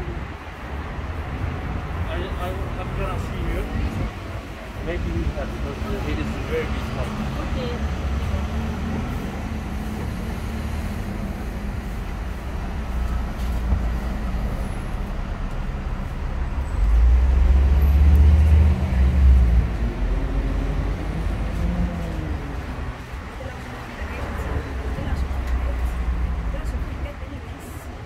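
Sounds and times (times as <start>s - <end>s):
street traffic rumble: 0.0s - 28.0s
vehicle passing: 1.2s - 27.4s.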